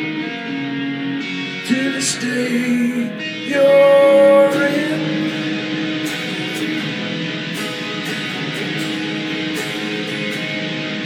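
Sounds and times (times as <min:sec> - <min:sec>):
guitar music: 0:00.0 - 0:11.0.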